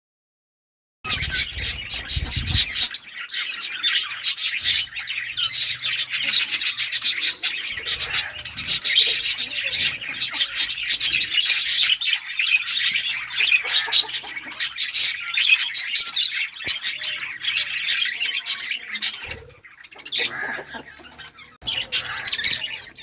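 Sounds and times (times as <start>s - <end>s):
lovebirds chirping and chattering: 1.1s - 23.0s.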